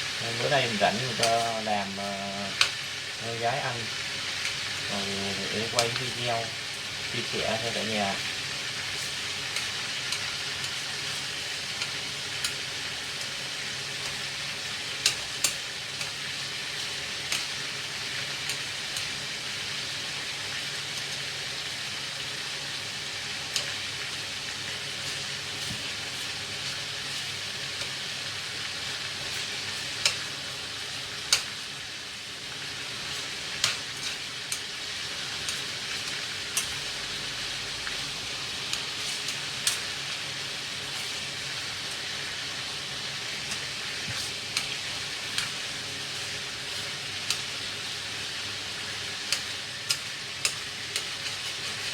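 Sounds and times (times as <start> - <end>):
meat sizzling in hot oil: 0.0 - 51.9.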